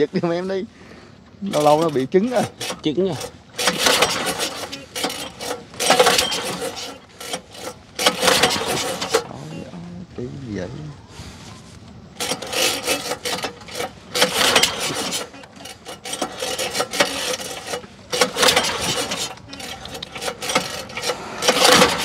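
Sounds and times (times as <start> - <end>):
engine turning over: 1.2 - 22.0
pull-start cord rasping: 1.4 - 9.4, 12.2 - 22.0.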